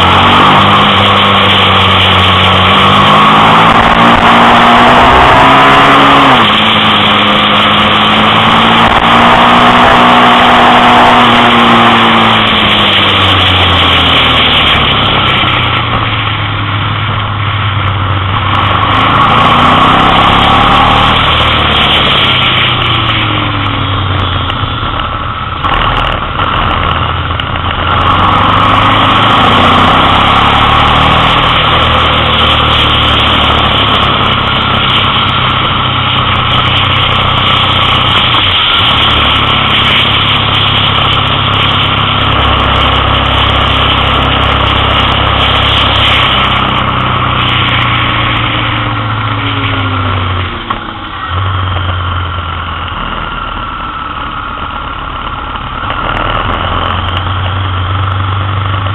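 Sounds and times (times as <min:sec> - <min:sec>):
wind rushing over microphone: 0:00.0 - 0:53.7
motorcycle engine accelerating: 0:00.0 - 0:58.9.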